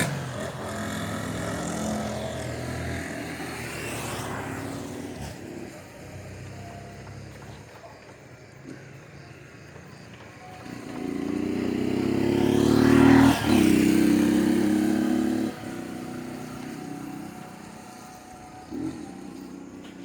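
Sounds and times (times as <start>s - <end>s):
vehicle driving past: 0.0s - 20.0s.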